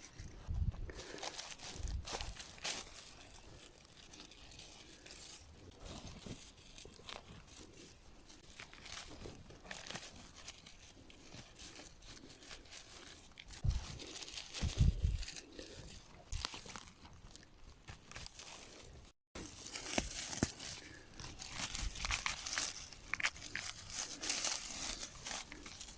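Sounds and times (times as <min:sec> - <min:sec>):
rustling of dry forest litter: 0:00.0 - 0:25.9.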